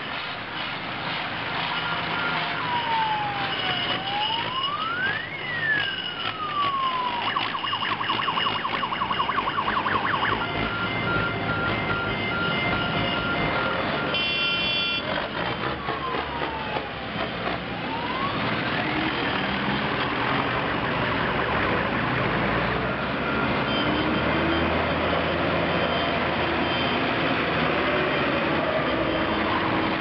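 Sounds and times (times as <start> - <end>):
tractor diesel engines: 0.0 - 30.0
siren-like wail: 1.6 - 30.0.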